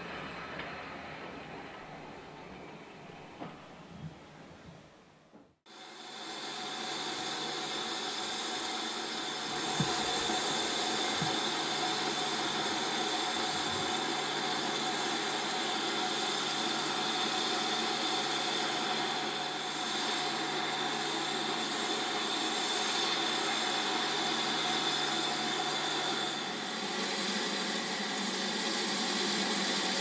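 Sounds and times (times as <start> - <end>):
steam hissing: 5.7 - 30.0.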